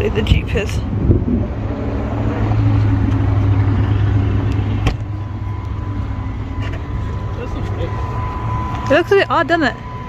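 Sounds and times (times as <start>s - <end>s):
car engine humming: 0.0s - 10.0s
road rumble: 0.0s - 10.0s.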